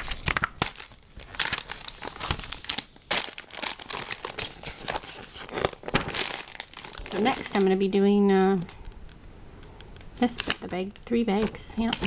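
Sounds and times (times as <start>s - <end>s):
plastic bags crinkling: 0.0s - 9.1s, 10.0s - 12.0s.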